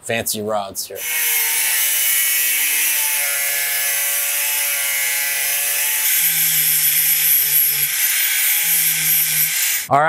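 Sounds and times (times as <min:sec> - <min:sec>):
angle grinder cutting metal: 0:01.0 - 0:09.9.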